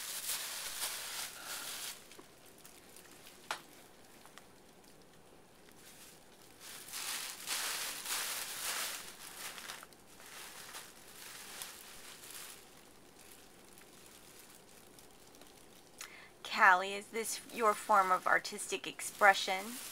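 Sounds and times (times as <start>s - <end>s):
plastic bags crinkling: 0.0s - 16.2s, 17.0s - 19.9s.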